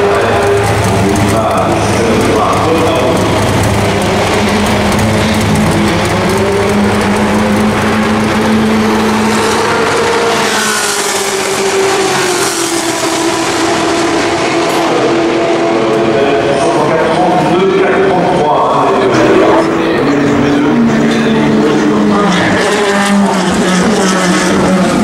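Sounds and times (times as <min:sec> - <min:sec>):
racing car engines running: 0:00.0 - 0:25.0.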